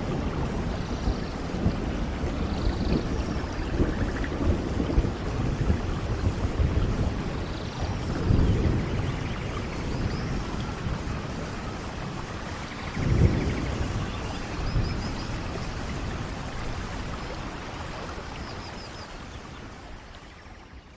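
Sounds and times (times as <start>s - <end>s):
low thunder rumbles: 0.0s - 20.0s
steady rain: 0.0s - 20.9s.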